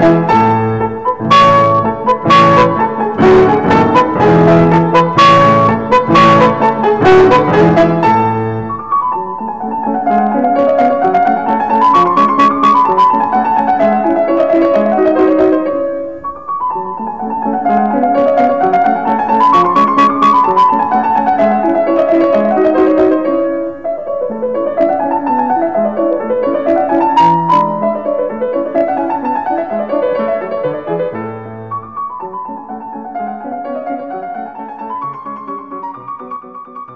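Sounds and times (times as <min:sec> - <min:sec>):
piano music: 0:00.0 - 0:36.9.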